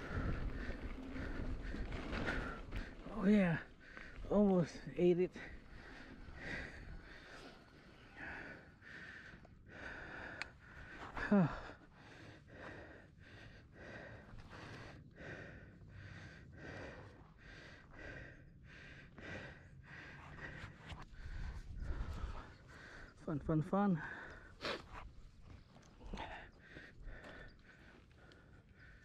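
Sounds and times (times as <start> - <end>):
person breathing hard: 0.0 - 4.3, 5.4 - 23.2, 25.9 - 29.0.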